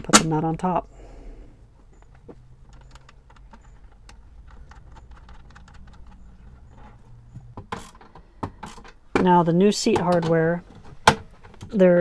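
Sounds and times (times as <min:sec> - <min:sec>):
metal bolts and nuts clicking: 0:01.9 - 0:12.0.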